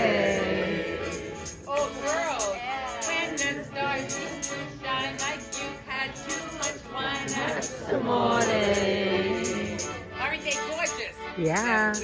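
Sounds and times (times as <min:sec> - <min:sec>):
piano accordion music: 0:00.0 - 0:12.0.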